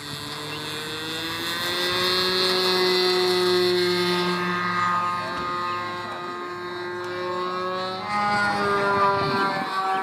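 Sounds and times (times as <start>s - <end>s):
model airplane engine at full throttle: 0.0s - 10.0s.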